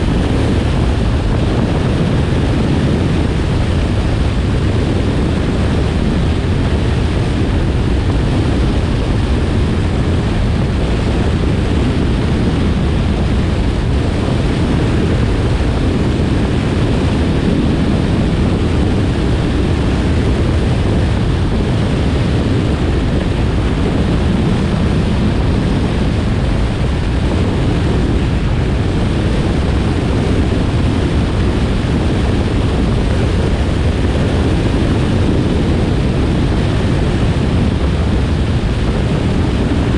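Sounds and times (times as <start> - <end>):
airplane engine and propeller: 0.0 - 39.9
wind buffeting microphone: 0.0 - 39.9.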